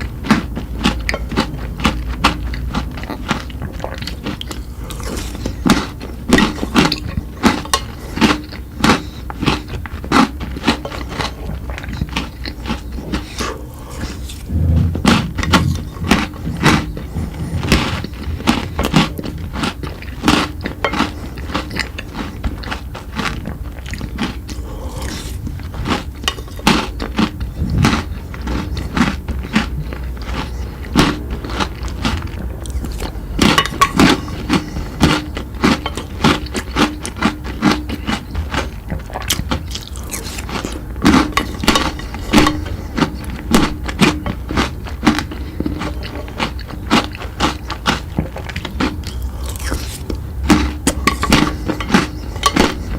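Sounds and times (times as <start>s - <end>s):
person chewing crunchy sweets: 0.0s - 52.9s.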